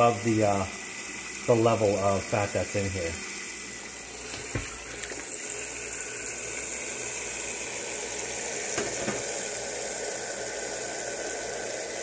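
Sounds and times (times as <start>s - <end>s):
faucet water into metal pot: 0.0s - 12.0s.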